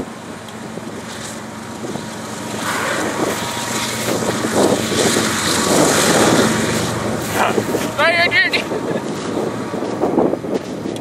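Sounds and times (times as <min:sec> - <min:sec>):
diesel locomotive engine: 0:00.0 - 0:11.0
freight train wheel and rail noise: 0:00.0 - 0:11.0.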